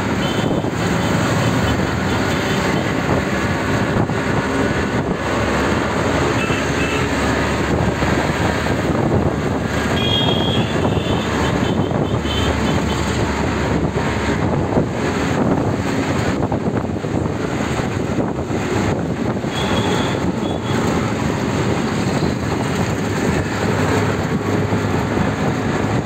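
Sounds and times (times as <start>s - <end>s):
auto-rickshaw engine and road noise: 0.0s - 26.0s.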